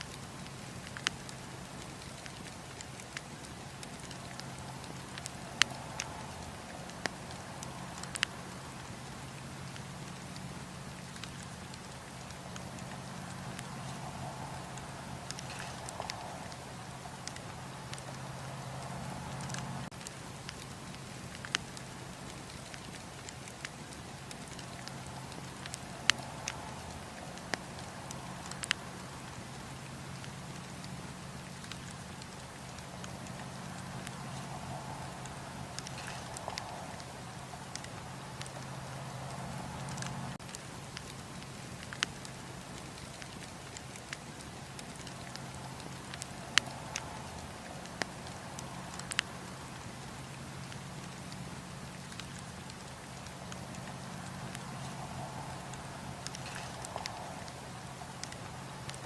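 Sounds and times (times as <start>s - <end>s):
burning wood popping: 0.0s - 59.0s
campfire flame hiss and rumble: 0.0s - 59.0s.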